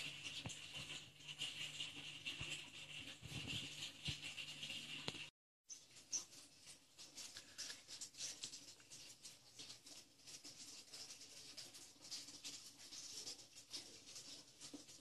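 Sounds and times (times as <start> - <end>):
soft crackles: 0.0 - 15.0.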